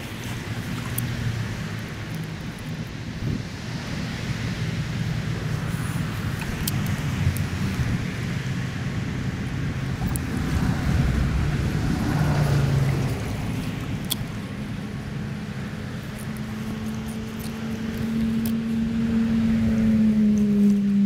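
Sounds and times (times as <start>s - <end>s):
wind on microphone: 0.0s - 20.6s
engine hum passing: 0.0s - 21.0s
stream water rushing: 0.0s - 21.0s.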